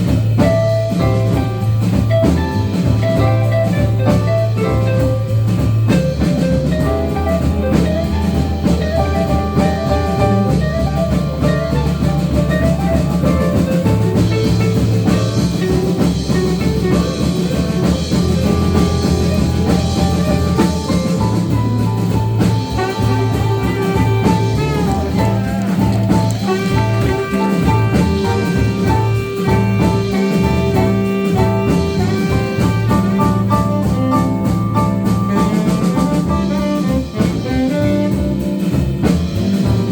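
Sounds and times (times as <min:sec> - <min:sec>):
bass: 0:00.0 - 0:39.9
drum kit: 0:00.0 - 0:39.9
horns: 0:00.0 - 0:39.9
jazz-soul band playing: 0:00.0 - 0:39.9.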